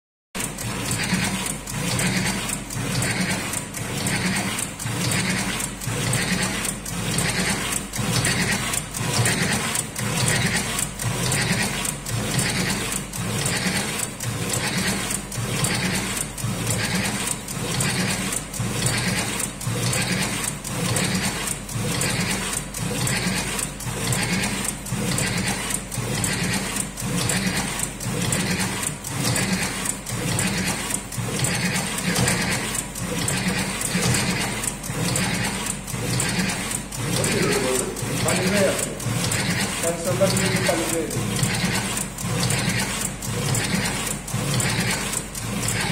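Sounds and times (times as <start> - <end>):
cigarette rolling machine cycling: 0.4 - 45.9.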